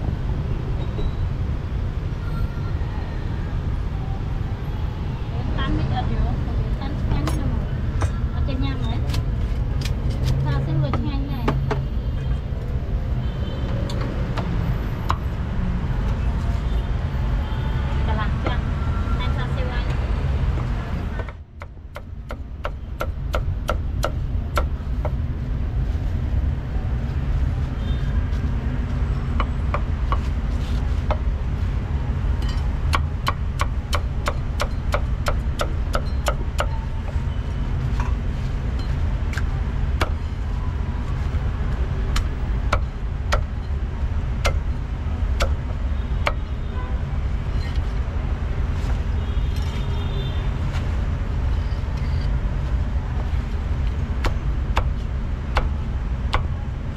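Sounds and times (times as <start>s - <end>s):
low rumble of traffic: 0.0s - 56.9s.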